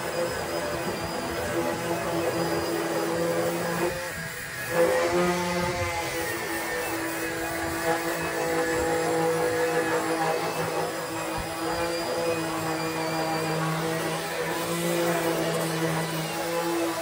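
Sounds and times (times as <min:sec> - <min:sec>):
abrasive sanding hiss: 0:00.0 - 0:17.0
electric sanders humming: 0:00.0 - 0:17.0.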